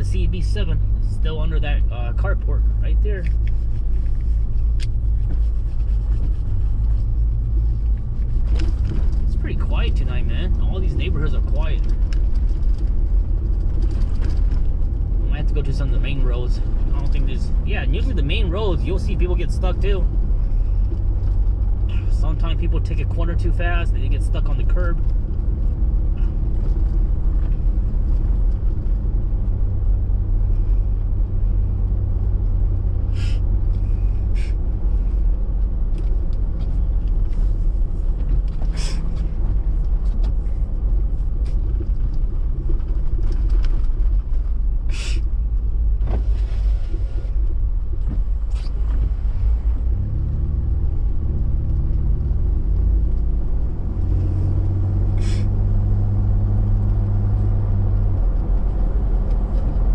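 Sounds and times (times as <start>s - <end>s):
engine and tyre rumble: 0.0s - 59.9s.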